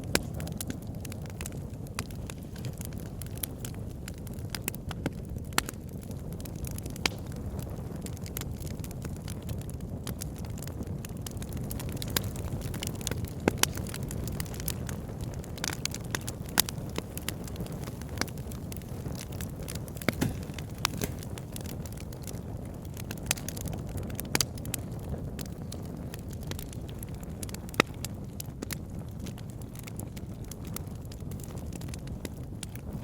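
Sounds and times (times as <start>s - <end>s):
fire crackles and pops: 0.0s - 33.0s
low rumble of flames: 0.0s - 33.0s.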